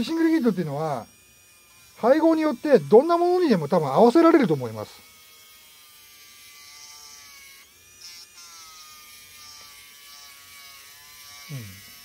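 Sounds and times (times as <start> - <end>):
rotary tool motor whine: 0.0 - 12.0.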